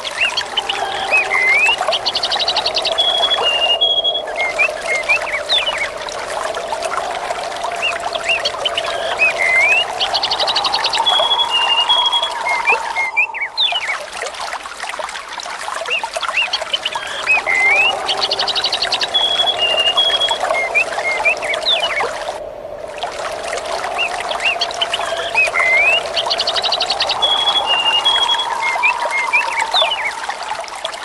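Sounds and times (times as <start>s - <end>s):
birds chirping and whistling: 0.0s - 6.0s, 7.7s - 14.2s, 15.9s - 22.4s, 23.9s - 30.5s
trickle of running water: 0.0s - 31.0s.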